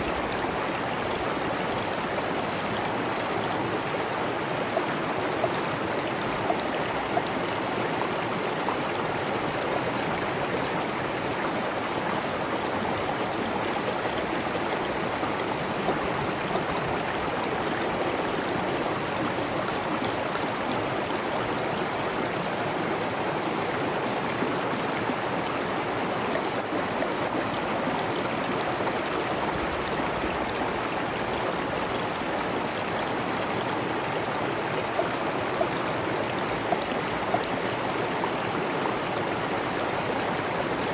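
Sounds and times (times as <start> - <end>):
stream of water running: 0.0 - 40.9.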